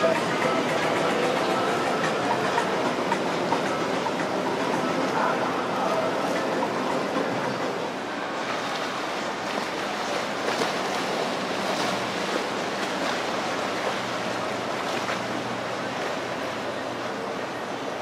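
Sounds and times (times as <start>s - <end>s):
low engine hum: 0.0s - 18.0s
water rushing and splashing: 0.0s - 18.0s.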